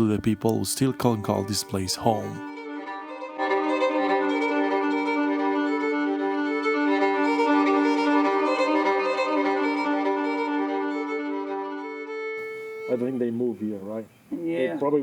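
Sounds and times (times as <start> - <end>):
slow fiddle tune: 0.0 - 14.3.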